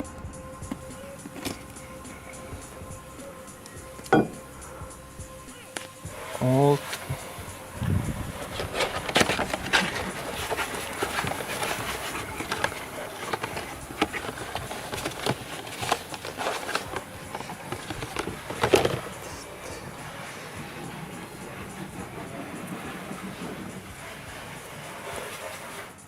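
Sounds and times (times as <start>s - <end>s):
hands handling plastic filter parts: 0.6s - 4.4s, 5.6s - 23.8s.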